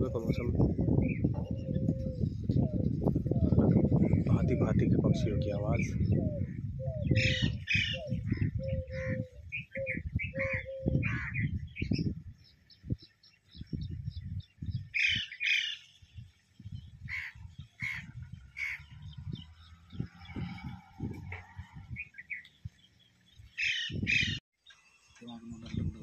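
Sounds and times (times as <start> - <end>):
low rumble on microphone: 0.0 - 15.0, 16.2 - 24.4, 25.2 - 26.0
birds chirping and calling: 0.0 - 26.0.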